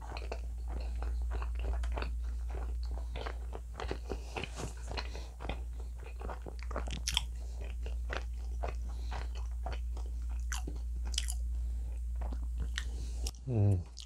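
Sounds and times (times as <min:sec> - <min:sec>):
chewing crunchy pizza crust: 0:00.0 - 0:14.0
steady low hum: 0:00.0 - 0:14.0.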